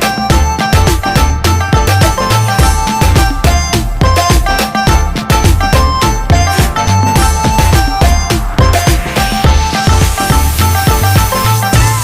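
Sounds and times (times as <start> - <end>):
music with fast beat and deep bass: 0.0 - 12.0.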